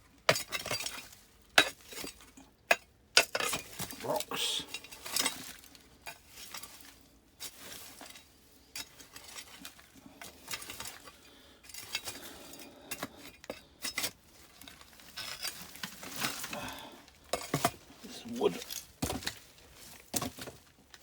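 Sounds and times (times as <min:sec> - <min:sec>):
digging scrapes in rubble: 0:00.3 - 0:21.0.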